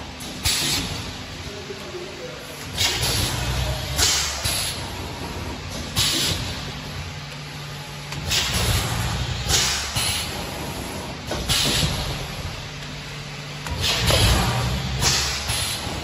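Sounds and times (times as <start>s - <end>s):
packaging machine humming: 0.0s - 16.0s.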